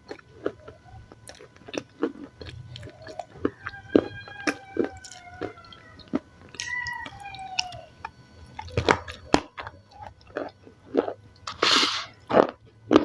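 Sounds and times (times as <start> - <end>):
chewing crunchy salad: 0.0 - 13.0.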